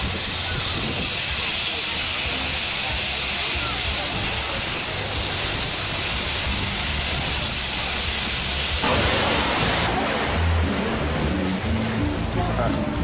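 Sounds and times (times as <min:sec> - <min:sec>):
jet engines rushing hiss: 0:00.0 - 0:13.0.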